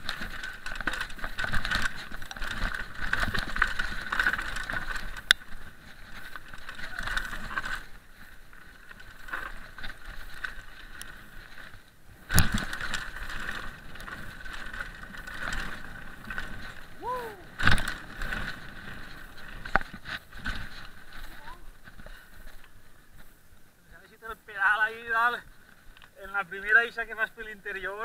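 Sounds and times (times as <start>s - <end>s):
bike rattling: 0.0s - 28.0s
tyres on loose gravel: 0.0s - 28.0s.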